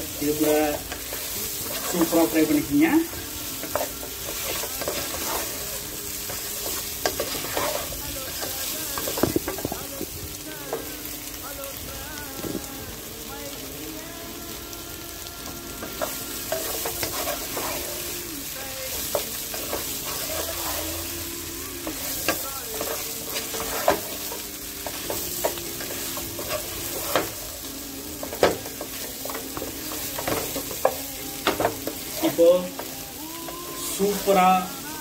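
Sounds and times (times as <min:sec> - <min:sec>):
potatoes sizzling in oil: 0:00.0 - 0:35.0.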